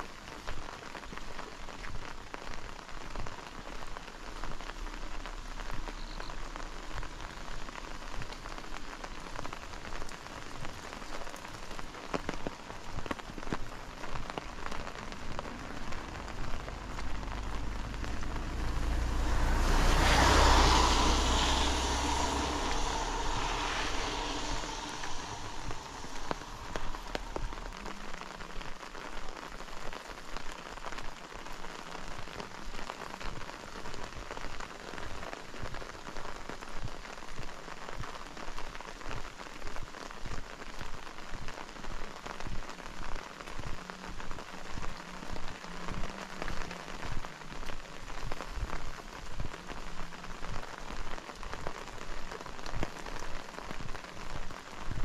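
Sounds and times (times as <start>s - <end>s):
steady rain: 0.0s - 55.0s
vehicle passing on wet road: 0.0s - 55.0s.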